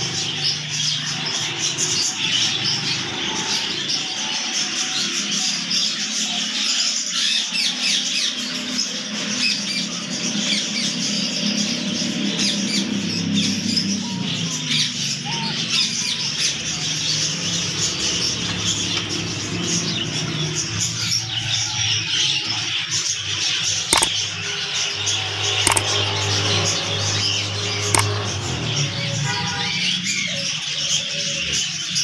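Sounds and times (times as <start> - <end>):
many small birds chirping: 0.0 - 32.0.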